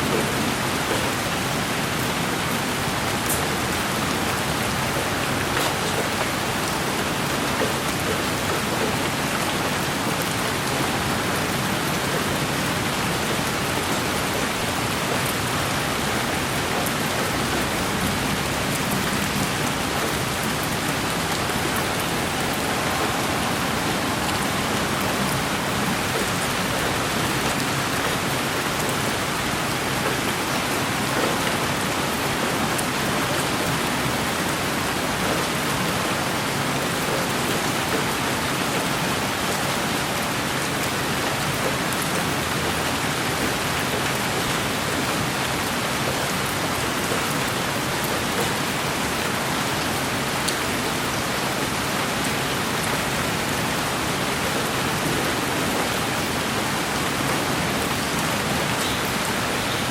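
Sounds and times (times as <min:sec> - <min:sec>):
raindrops pattering: 0:00.0 - 0:49.5
steady rain falling: 0:00.0 - 0:59.9.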